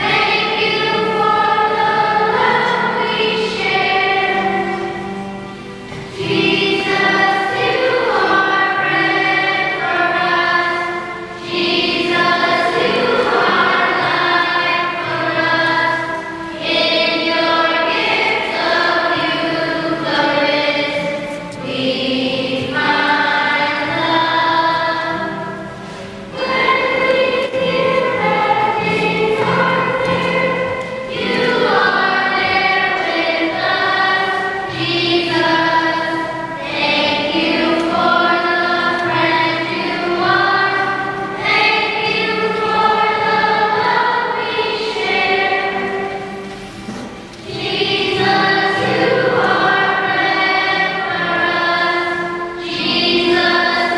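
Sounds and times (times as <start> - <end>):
choir singing a hymn: 0.0 - 53.9.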